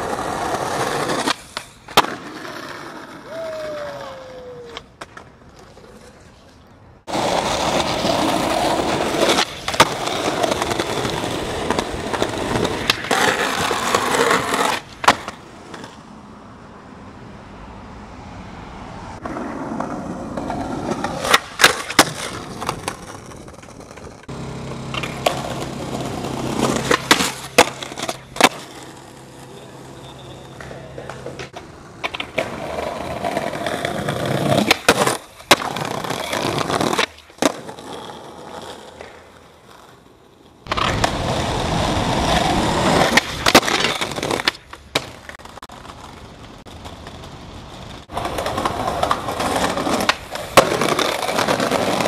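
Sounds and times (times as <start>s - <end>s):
skateboard trucks grinding ledge: 0.0s - 4.1s, 4.7s - 16.1s, 19.2s - 52.0s
skateboard clacks: 0.0s - 16.0s, 19.2s - 52.0s
skateboard wheels rolling on concrete: 0.0s - 52.0s.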